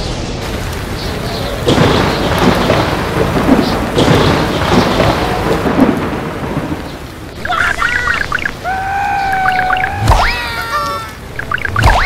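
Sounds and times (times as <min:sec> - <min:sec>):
rumbling thunder: 0:00.0 - 0:10.4
steady rain: 0:00.0 - 0:12.0.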